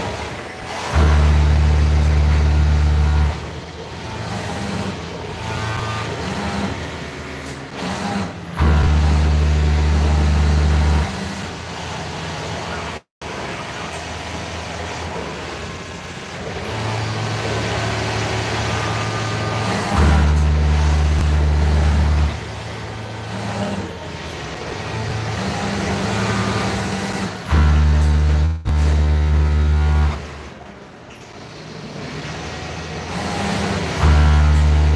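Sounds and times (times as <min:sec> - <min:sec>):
industrial sewing machines running: 0:00.0 - 0:34.9.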